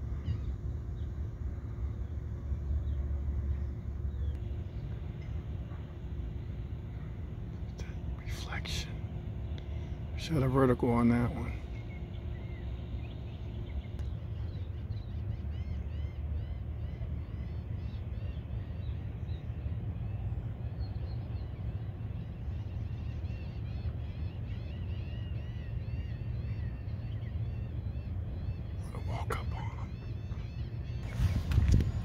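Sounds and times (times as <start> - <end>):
low outdoor rumble: 0.0 - 32.0
small birds chirping: 1.9 - 32.0.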